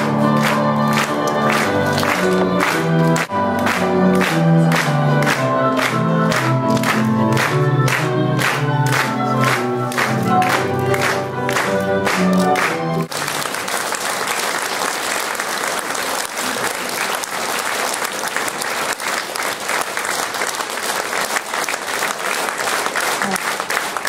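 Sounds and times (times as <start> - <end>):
large audience applauding: 0.0 - 24.0.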